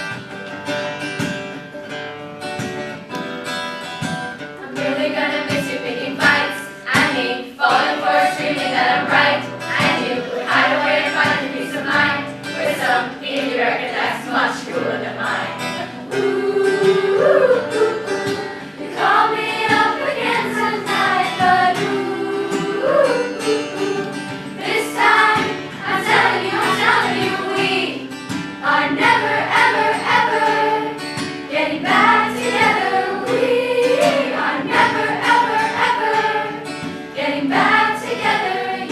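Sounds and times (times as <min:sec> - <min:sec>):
acoustic guitar strumming: 0:00.0 - 0:38.9
children's choir singing: 0:04.6 - 0:38.9.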